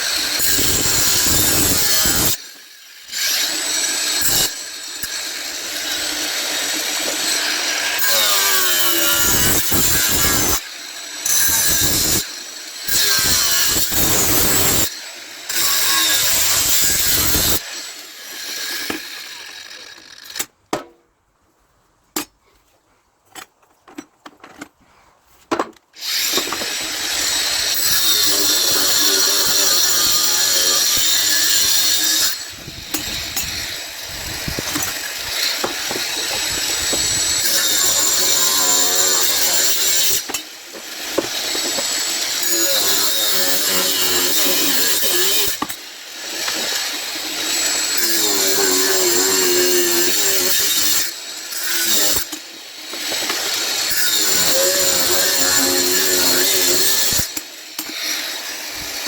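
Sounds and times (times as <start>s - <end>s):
power tool cutting metal: 0.0s - 20.5s, 26.0s - 59.0s.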